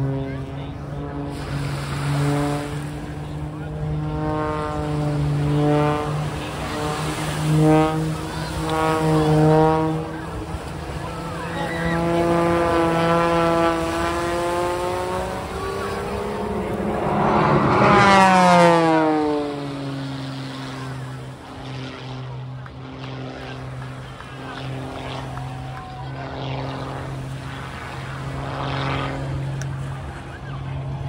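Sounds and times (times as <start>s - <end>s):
engine droning and passing by: 0.0s - 31.0s.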